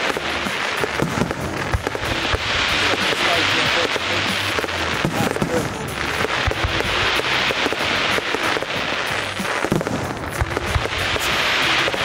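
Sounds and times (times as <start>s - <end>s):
deep fireworks booms: 0.0s - 12.0s
fireworks crackling: 0.0s - 12.0s.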